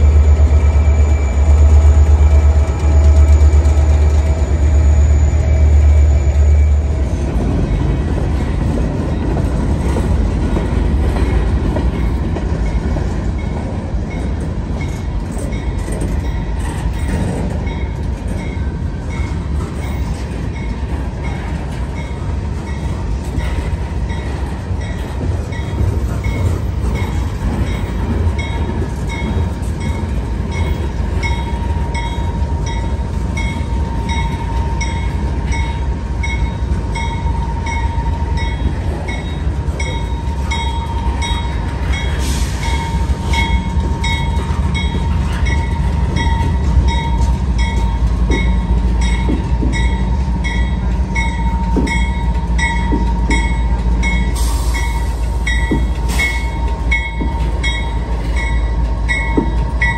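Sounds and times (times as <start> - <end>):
train wheel squeal: 0.0 - 8.0, 14.2 - 59.9
freight cars rumbling on rails: 0.0 - 59.9
crossing bell dinging: 10.5 - 59.9.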